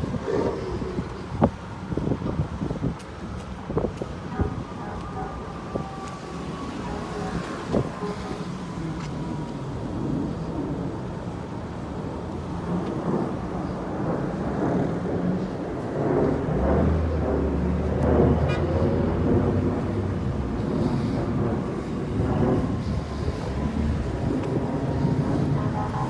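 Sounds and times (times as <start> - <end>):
road traffic noise: 0.0 - 26.0
vehicle engine rumbling nearby: 3.1 - 26.0.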